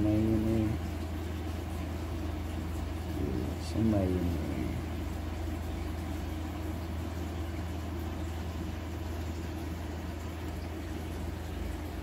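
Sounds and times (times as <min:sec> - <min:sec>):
aquarium pump humming: 0:00.0 - 0:12.0.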